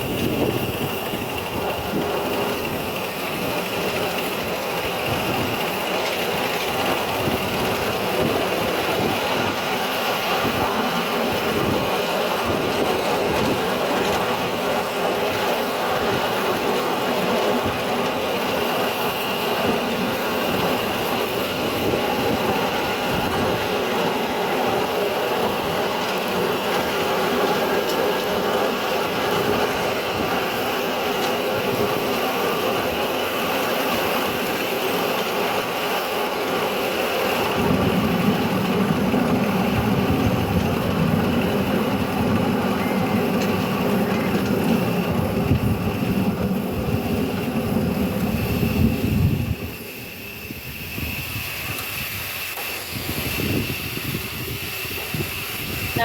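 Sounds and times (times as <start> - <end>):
miniature steam train running: 0.0 - 56.0
wheels rattling over rails: 0.0 - 56.0.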